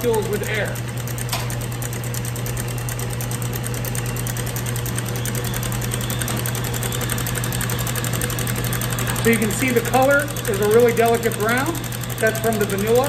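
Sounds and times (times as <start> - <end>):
stand mixer whipping cream: 0.0 - 13.0.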